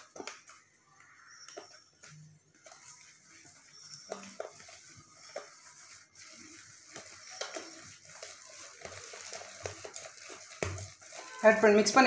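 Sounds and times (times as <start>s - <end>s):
whisk tapping and scraping bowl: 1.5s - 12.0s.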